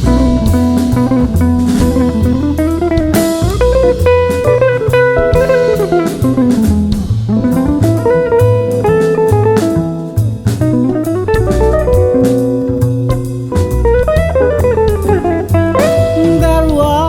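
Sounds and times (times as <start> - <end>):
bass: 0.0 - 17.0
drum kit: 0.0 - 17.0
guitar solo with bent notes: 0.0 - 17.0.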